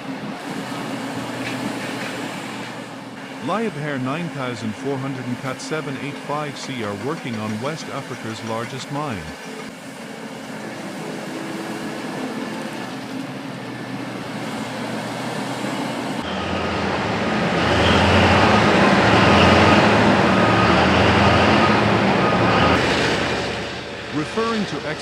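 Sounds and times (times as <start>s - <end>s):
diesel engines running under load: 0.0s - 25.0s.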